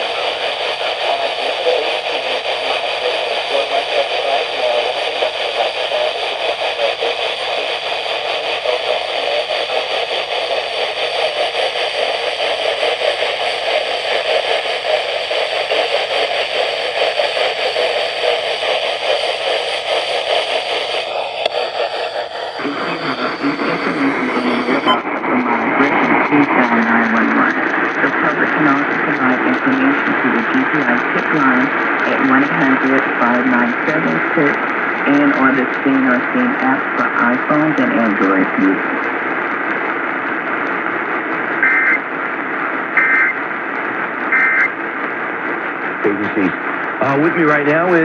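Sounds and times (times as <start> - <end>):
radio alert broadcast: 0.0 - 39.2, 41.5 - 42.1, 42.9 - 43.4, 44.2 - 44.8, 46.0 - 48.0
loud static hiss: 0.0 - 48.0.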